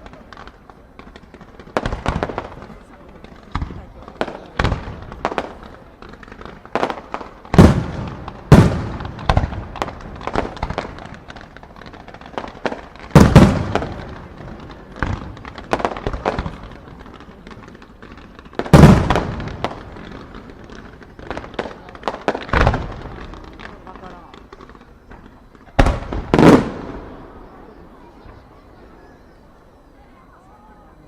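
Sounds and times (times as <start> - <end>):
fireworks booming with echoes: 0.0 - 31.0
lighter fireworks reports: 0.0 - 31.0.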